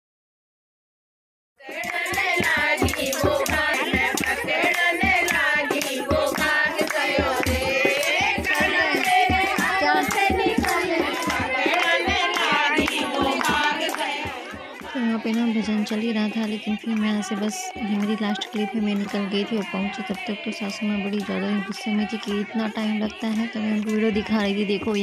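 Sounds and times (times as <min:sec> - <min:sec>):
rhythmic hand clapping: 0:01.6 - 0:25.0
women singing together: 0:01.6 - 0:25.0.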